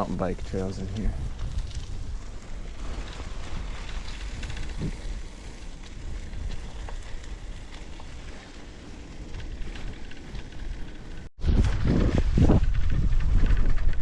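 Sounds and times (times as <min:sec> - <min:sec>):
bicycle tyres on gravel: 0:00.0 - 0:14.0
wind on microphone: 0:00.0 - 0:14.0.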